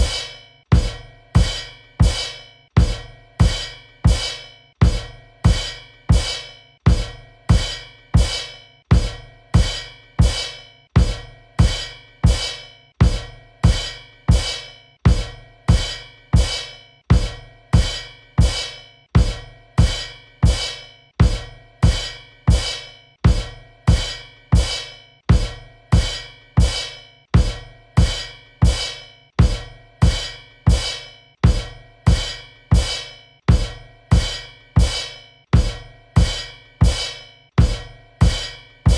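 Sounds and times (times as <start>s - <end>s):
bass drum and cymbal hits: 0.0s - 38.9s.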